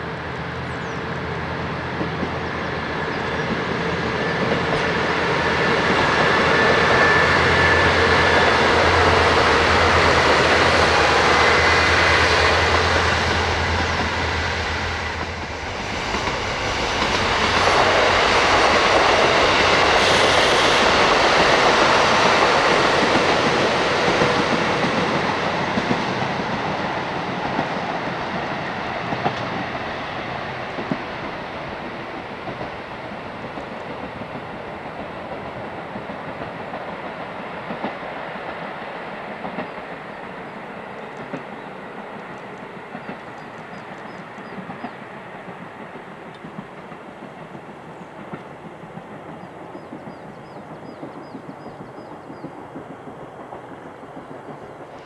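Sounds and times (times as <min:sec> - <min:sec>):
train wheel noise and rail clicks: 0:00.0 - 0:55.0.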